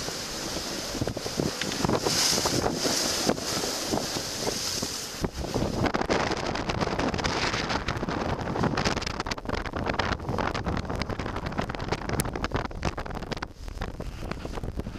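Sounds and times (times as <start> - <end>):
gale wind buffeting microphone: 0.0 - 14.9.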